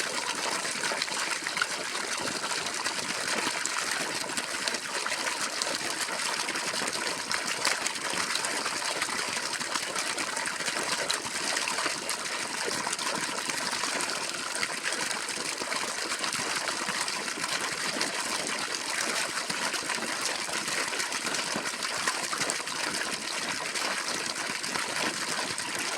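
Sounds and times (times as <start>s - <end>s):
water gushing from a pipe: 0.0s - 25.9s.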